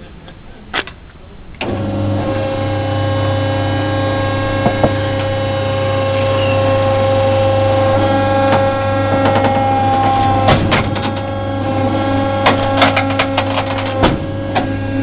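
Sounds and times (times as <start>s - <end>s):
hydraulic power unit humming: 1.5s - 15.0s.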